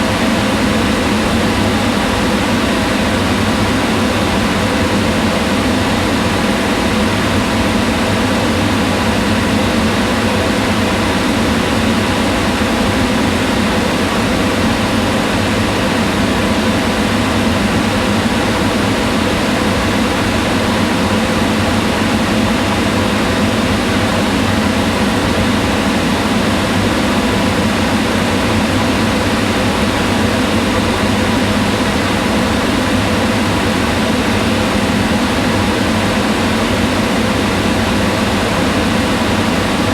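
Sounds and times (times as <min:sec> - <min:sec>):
range hood fan running: 0:00.0 - 0:39.9.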